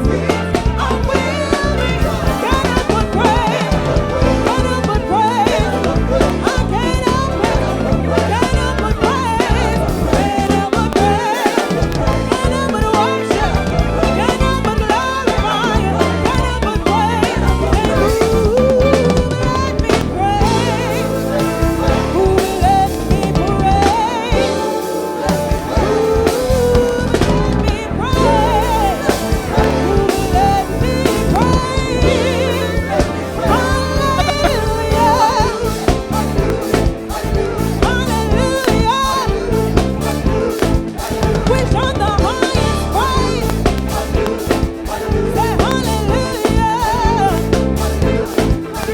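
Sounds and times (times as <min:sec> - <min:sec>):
gospel band playing: 0:00.0 - 0:48.9
person singing: 0:00.0 - 0:48.9.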